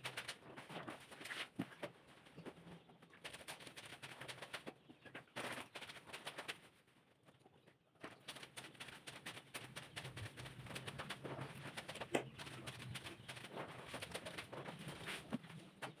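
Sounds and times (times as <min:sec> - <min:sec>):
faint rustling and clicking: 0:00.0 - 0:16.0.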